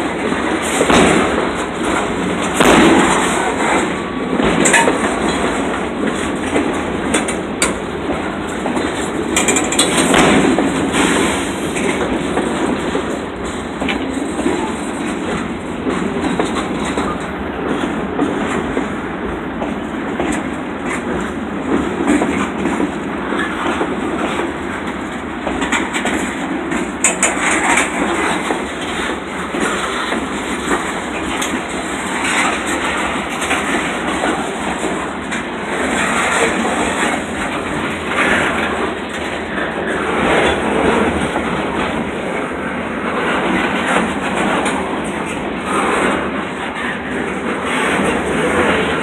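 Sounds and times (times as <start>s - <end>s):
freight train cars rumbling and rattling: 0.0s - 49.0s
train wheels knocking over rail joints: 0.0s - 49.0s.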